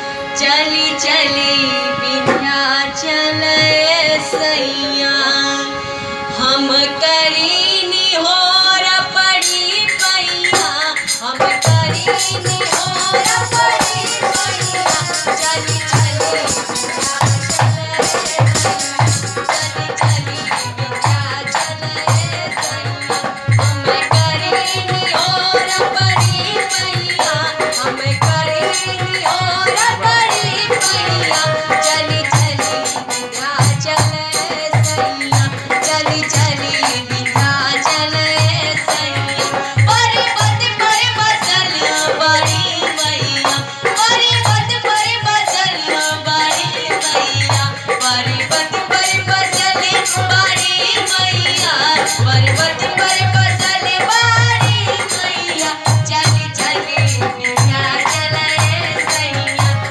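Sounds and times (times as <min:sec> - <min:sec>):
woman singing into microphone: 0:00.0 - 0:59.9.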